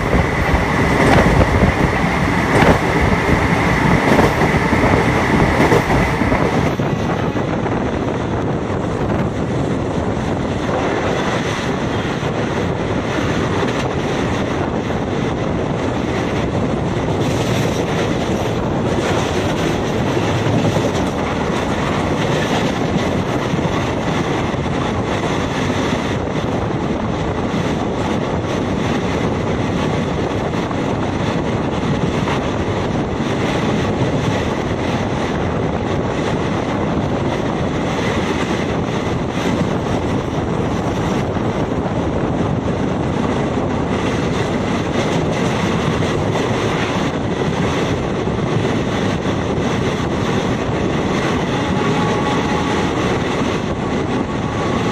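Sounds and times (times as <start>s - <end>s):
train wheels on rails: 0.0s - 54.9s
wind rushing over microphone: 0.0s - 54.9s.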